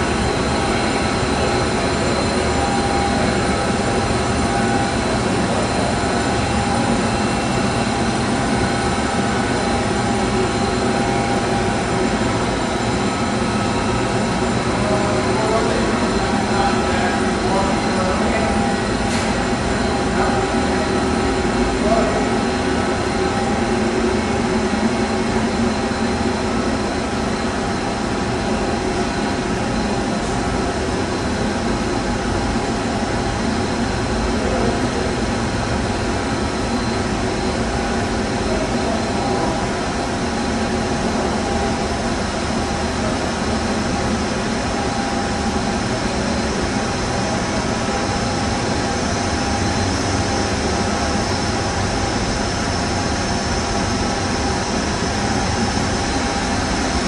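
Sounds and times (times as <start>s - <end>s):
high whine: 0.0s - 57.0s
mechanical drone: 0.0s - 57.0s.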